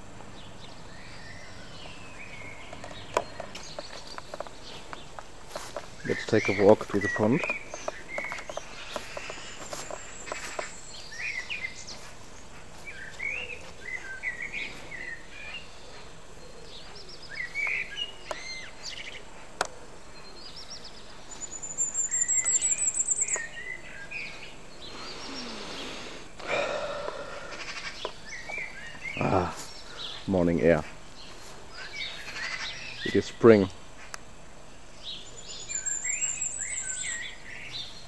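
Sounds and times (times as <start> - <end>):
songbirds chirping and warbling: 0.0 - 38.0.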